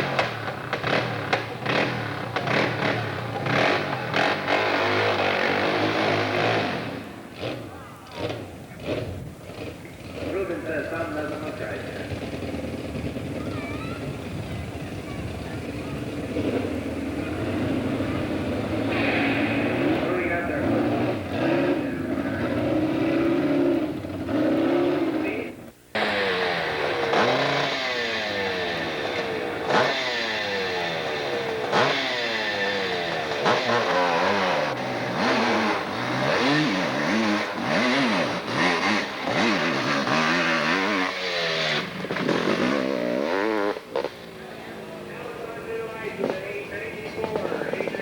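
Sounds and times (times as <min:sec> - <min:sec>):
engine clatter: 0:00.0 - 0:48.0
motorcycle engine revving: 0:00.0 - 0:48.0.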